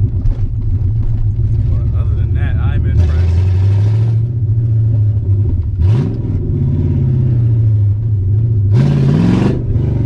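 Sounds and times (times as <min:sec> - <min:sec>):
car engine rumbling and revving: 0:00.0 - 0:10.0.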